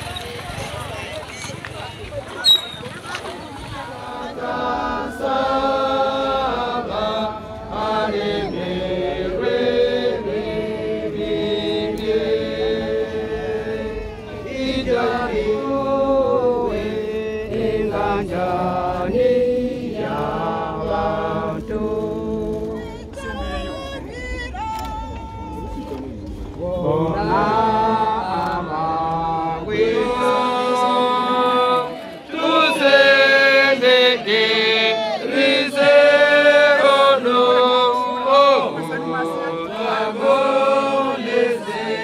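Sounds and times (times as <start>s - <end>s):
voices singing a slow chant: 3.7s - 42.0s.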